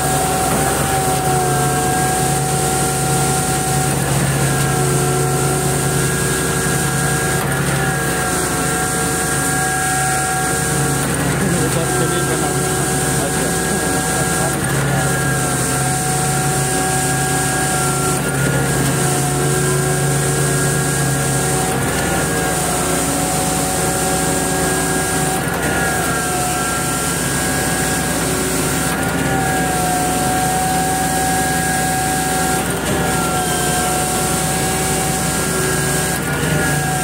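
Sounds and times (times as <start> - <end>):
heavy truck engine running: 0.0 - 37.0.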